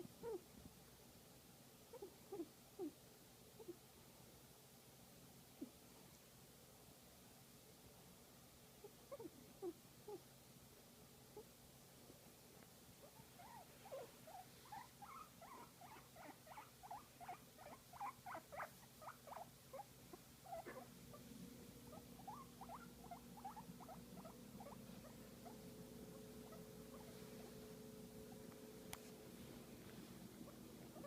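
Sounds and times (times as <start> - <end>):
guinea pig squeaking softly: 0.0 - 0.9, 1.8 - 4.0, 5.4 - 6.4, 8.1 - 31.0.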